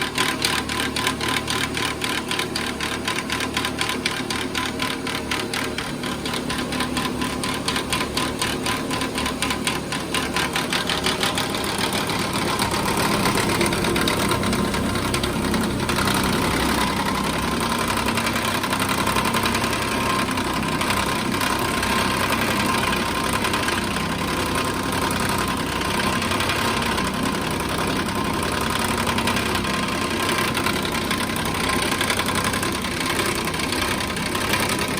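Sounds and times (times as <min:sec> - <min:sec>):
rapid engine clatter: 0:00.0 - 0:34.9.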